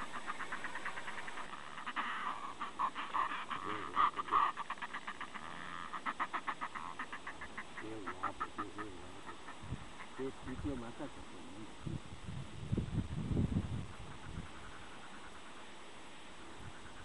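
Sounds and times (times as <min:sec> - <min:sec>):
fulmars cackling: 0:00.0 - 0:11.9, 0:13.8 - 0:15.8, 0:16.4 - 0:17.0.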